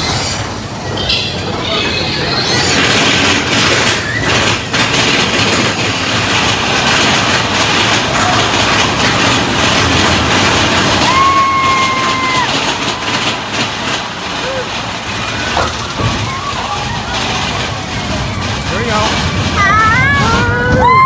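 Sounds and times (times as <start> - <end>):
roller coaster cars rattling: 0.0 - 21.0.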